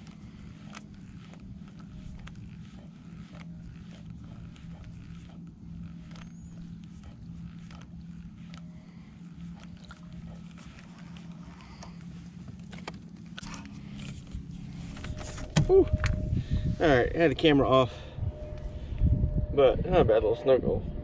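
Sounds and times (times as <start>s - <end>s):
electric motor humming: 0.0s - 19.5s.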